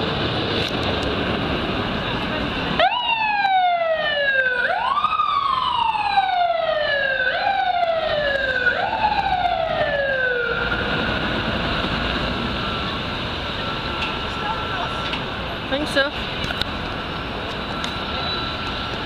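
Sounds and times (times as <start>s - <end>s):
city traffic hum: 0.0s - 19.0s
fire engine siren wailing: 0.0s - 19.0s.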